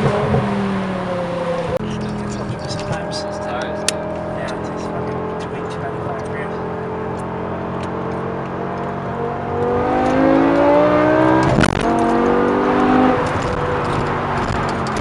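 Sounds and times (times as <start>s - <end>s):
car engine accelerating: 0.0s - 15.0s
exhaust crack: 0.0s - 15.0s.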